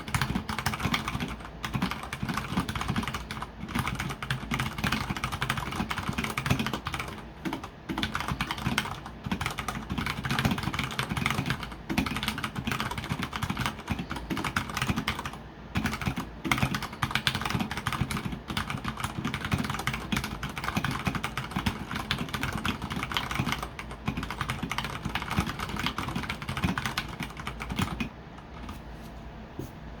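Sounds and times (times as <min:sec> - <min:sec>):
fast typing on mechanical keyboard: 0:00.0 - 0:28.7.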